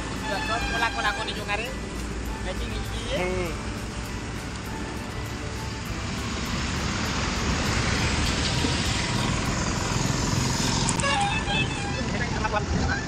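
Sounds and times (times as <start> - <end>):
highway traffic rush: 0.0 - 13.0.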